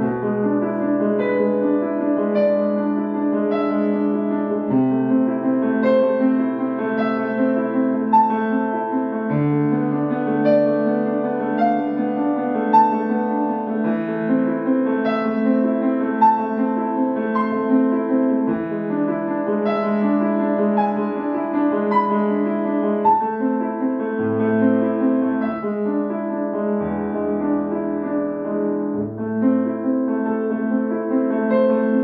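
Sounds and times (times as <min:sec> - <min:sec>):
solo piano: 0:00.0 - 0:32.0.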